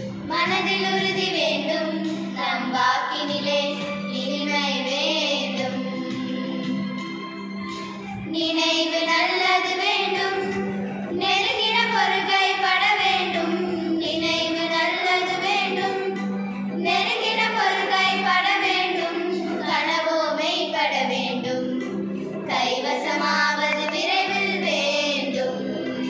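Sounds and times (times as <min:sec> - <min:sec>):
girls singing unaccompanied: 0:00.0 - 0:06.8, 0:08.2 - 0:26.0.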